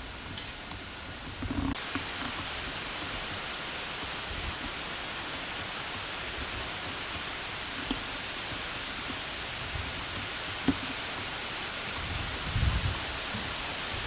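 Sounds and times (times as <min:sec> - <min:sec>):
camcorder recording hiss: 0:00.0 - 0:14.0.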